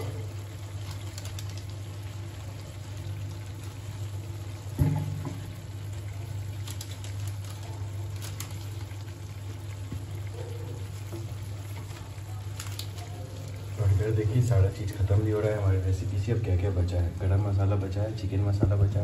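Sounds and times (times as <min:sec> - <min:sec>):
food sizzling in oil: 0:00.0 - 0:18.4.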